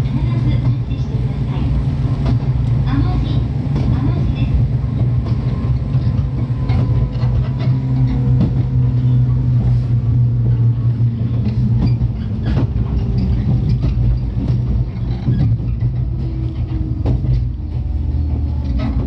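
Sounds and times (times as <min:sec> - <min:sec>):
train motor hum and rumble: 0:00.0 - 0:19.0.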